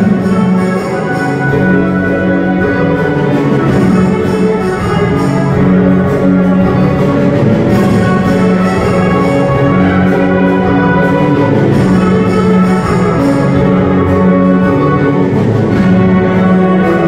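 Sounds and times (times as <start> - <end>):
orchestra playing brass chords: 0.0 - 17.0.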